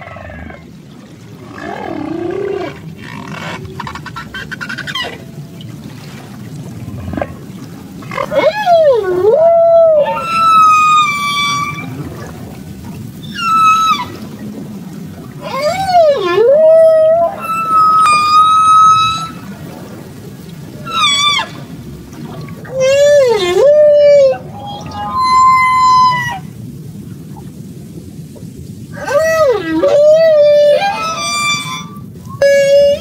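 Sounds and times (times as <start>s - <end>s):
humpback whale song: 0.0s - 33.0s.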